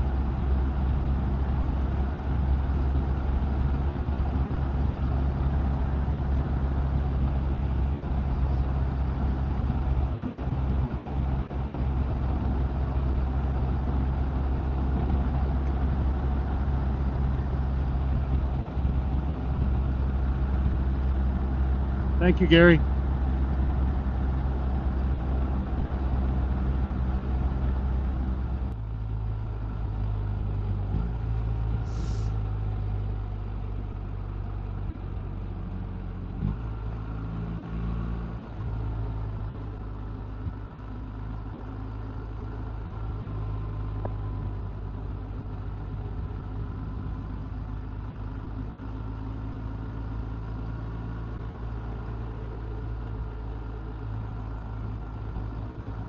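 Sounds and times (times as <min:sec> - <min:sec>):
motorcycle engines humming: 0:00.0 - 0:56.0
road and wind noise: 0:00.0 - 0:56.0.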